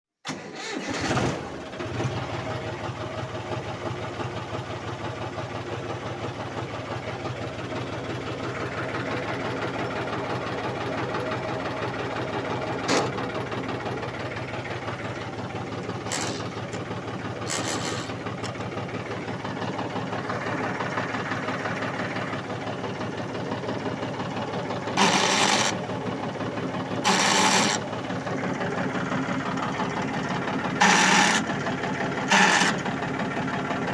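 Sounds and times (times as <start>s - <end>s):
tractor diesel engine running: 0.3s - 33.9s.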